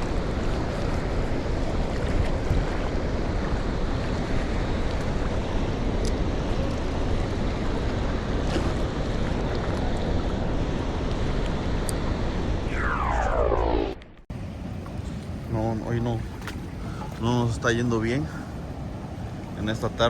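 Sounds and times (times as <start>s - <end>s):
water lapping at shoreline: 0.0s - 11.6s, 14.3s - 20.0s
wind rumbling on microphone: 0.0s - 17.0s.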